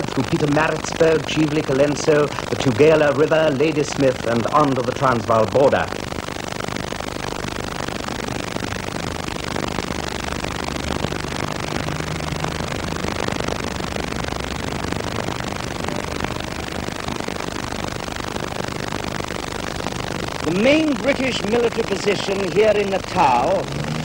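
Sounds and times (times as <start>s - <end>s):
low hum: 0.0s - 24.0s
tape hiss: 0.0s - 24.0s.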